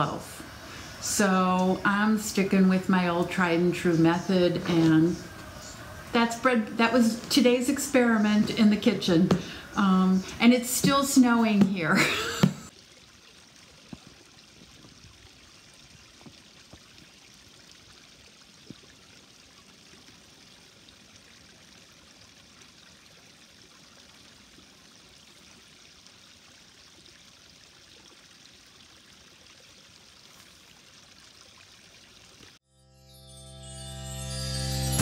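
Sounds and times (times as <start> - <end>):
trickle of running water: 0.0 - 32.6.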